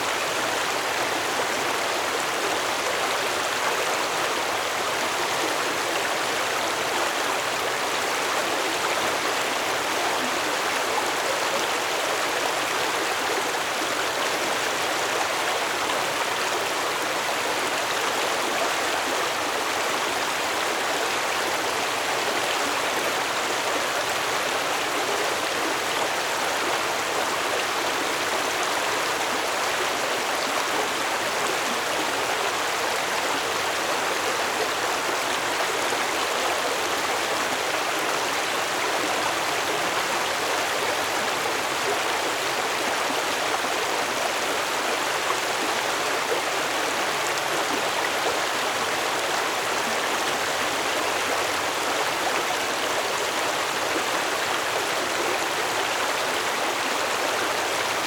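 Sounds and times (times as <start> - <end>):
stream flowing and splashing: 0.0 - 58.0.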